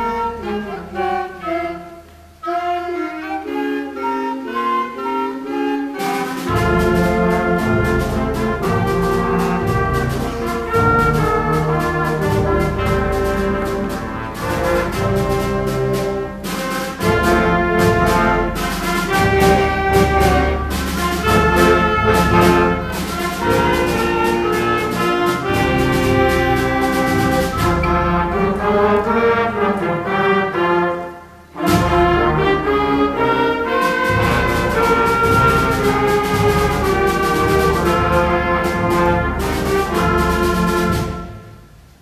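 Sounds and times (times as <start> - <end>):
concert band playing: 0.0 - 42.0
trombones and trumpets: 0.0 - 42.0.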